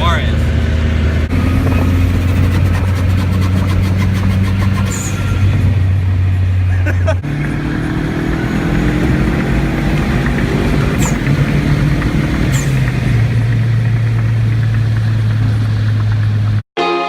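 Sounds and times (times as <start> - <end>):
car engine droning: 0.0 - 16.6
tyre and road rumble: 0.0 - 16.6.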